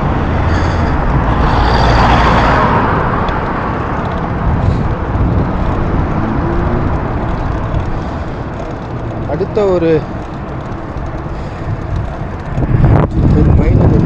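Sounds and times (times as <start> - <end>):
city road traffic: 0.0 - 14.0
vehicle passing by: 0.0 - 14.0
wind rumble on microphone: 0.0 - 14.0.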